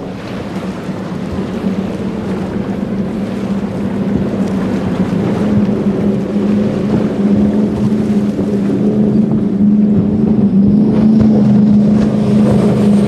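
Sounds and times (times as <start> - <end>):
powerboat engine drone: 0.0 - 13.0
water noise: 0.0 - 13.0
wind noise: 0.0 - 13.0.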